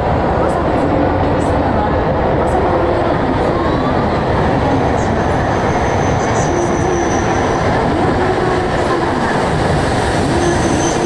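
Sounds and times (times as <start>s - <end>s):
train cars and wheels rumbling: 0.0s - 11.0s.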